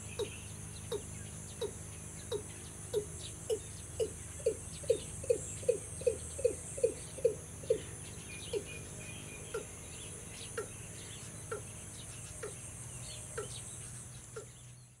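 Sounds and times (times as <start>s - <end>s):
faint bird chirps: 0.0s - 15.0s
high insect drone: 0.0s - 15.0s.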